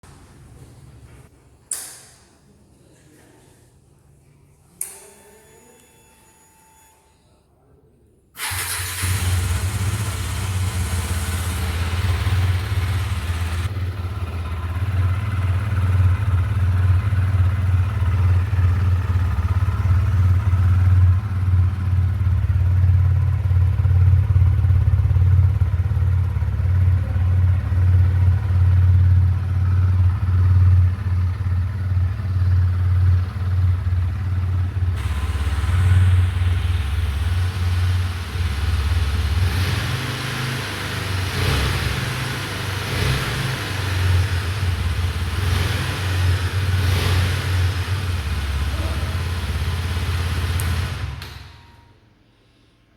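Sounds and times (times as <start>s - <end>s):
motorcycle engine droning: 8.4s - 52.0s.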